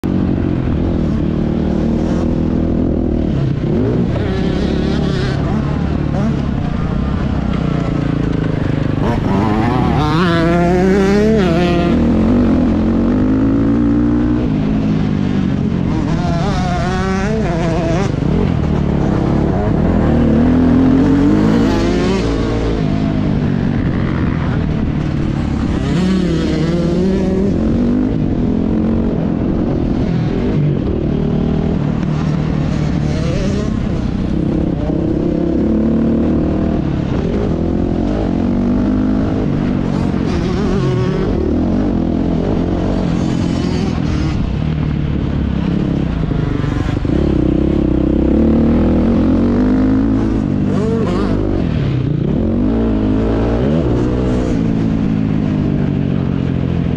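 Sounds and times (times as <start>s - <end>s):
motocross bike engine revving: 1.0s - 55.5s.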